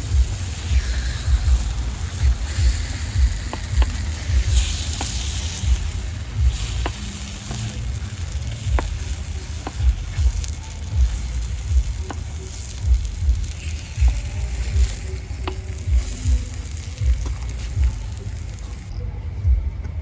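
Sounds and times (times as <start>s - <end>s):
food sizzling in a hot pan: 0.0s - 18.9s
sharp pops and crackles: 0.0s - 18.9s
low rumble: 0.0s - 20.0s.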